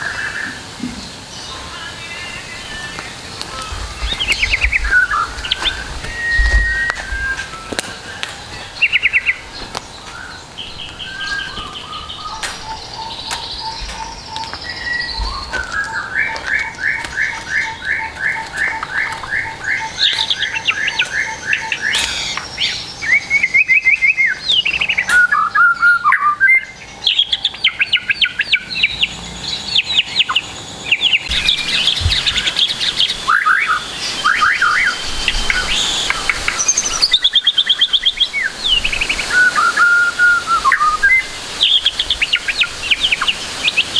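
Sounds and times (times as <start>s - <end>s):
bird song with trills and chirps: 0.0s - 43.9s.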